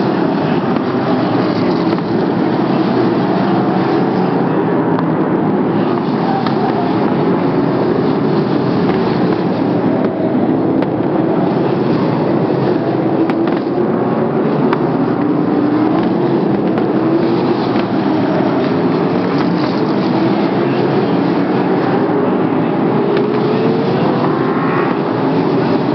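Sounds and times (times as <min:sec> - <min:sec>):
race car engines droning: 0:00.0 - 0:25.9.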